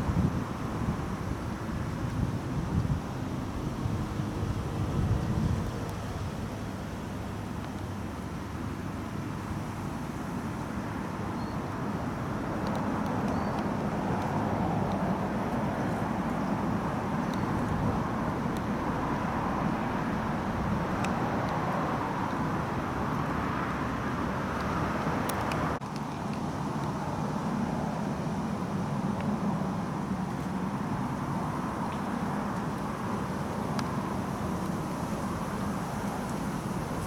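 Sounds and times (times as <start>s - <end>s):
distant road traffic hum: 0.0s - 37.0s.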